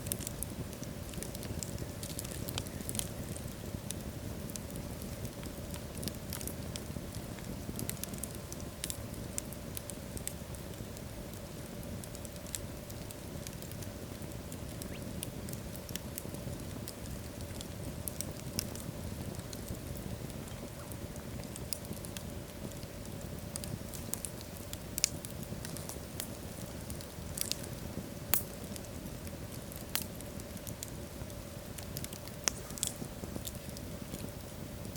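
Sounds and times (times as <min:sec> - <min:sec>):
logs crackling and popping: 0:00.0 - 0:34.9
low rush of flames: 0:00.0 - 0:34.9.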